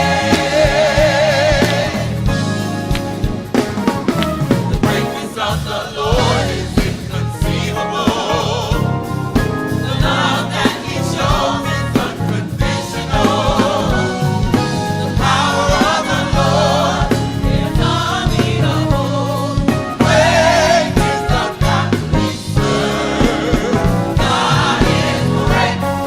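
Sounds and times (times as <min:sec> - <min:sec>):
bass: 0:00.0 - 0:26.0
drum kit: 0:00.0 - 0:26.0
gospel choir singing: 0:00.0 - 0:26.0.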